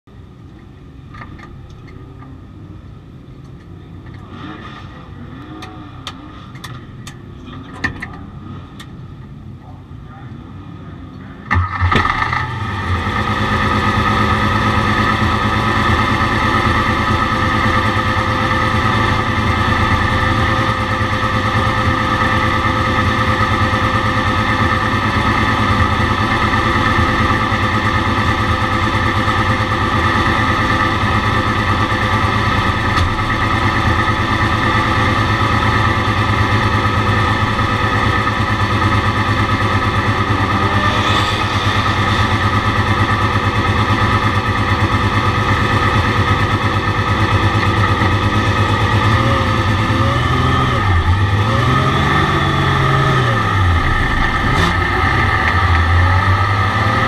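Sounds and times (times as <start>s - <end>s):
race car engine starting and idling: 0.1s - 57.0s.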